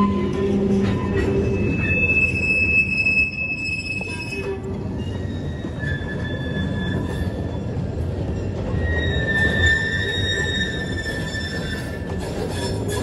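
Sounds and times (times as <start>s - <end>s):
train wheels squealing on rails: 0.0s - 13.0s.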